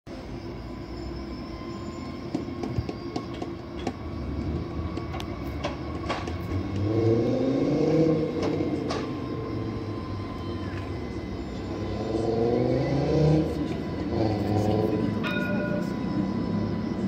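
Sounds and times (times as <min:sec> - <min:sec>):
tram motors whining: 0:00.1 - 0:17.0
tram rolling rumble: 0:00.1 - 0:17.0.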